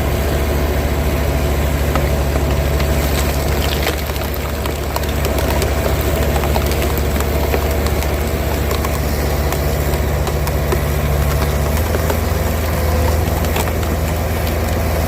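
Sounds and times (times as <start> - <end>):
skid steer engine running: 0.0 - 15.0
sharp cracks and ticks: 2.0 - 15.0.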